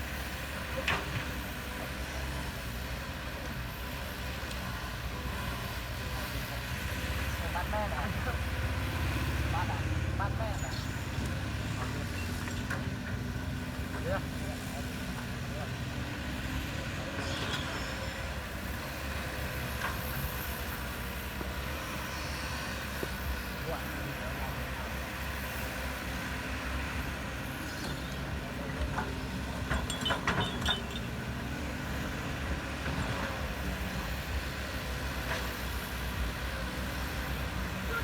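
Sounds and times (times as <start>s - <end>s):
construction machine engine rumbling: 0.0s - 38.0s.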